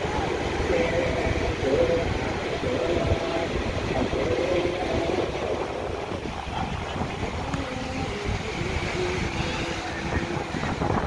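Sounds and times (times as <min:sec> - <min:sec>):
faint distant crowd voices: 0:00.0 - 0:11.0
wind buffeting microphone: 0:00.0 - 0:11.0.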